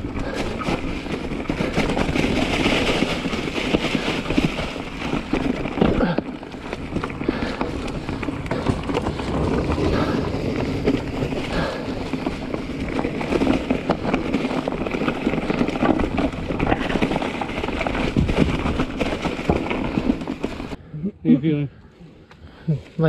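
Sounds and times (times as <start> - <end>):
bike rattling over rocks: 0.0 - 20.8
tyres crunching through leaves: 0.0 - 20.8.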